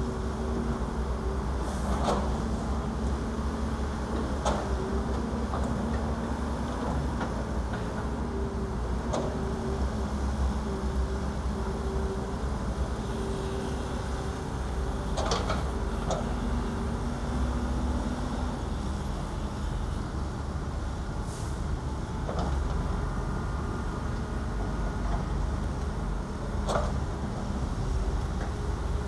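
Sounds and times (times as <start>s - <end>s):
diesel engines droning: 0.0s - 29.0s.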